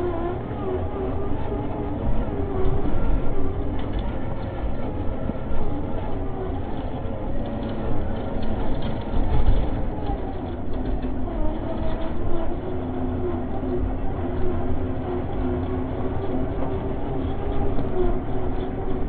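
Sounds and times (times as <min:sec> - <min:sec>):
chassis rattles and bumps: 0:00.0 - 0:19.0
tyres rumbling: 0:00.0 - 0:19.0.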